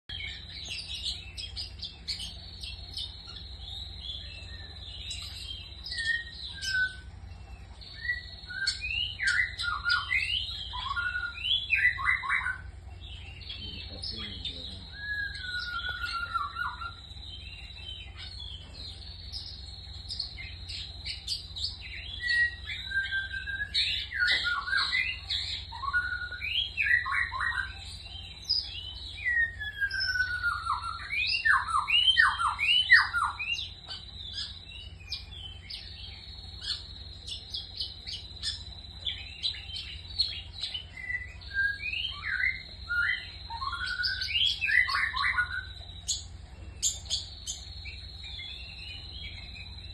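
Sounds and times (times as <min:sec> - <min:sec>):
bird singing chattering song: 0:00.0 - 0:49.9
low hum: 0:00.1 - 0:49.9.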